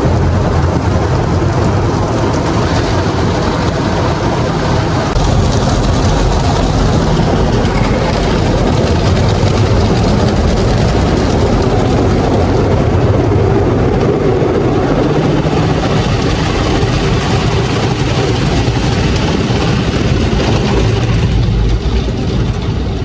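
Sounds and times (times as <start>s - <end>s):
loud mechanical rumble with hiss: 0.0s - 23.0s.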